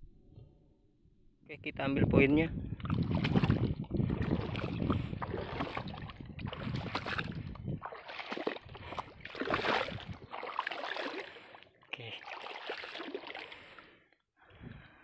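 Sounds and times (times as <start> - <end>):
wading through marsh water splashing: 2.8 - 15.0.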